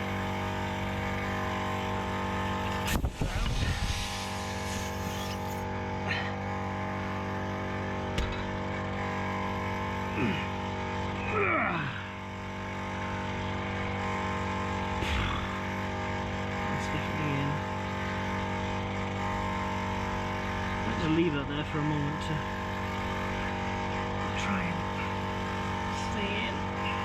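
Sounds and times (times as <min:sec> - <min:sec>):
motor humming: 0:00.0 - 0:27.0.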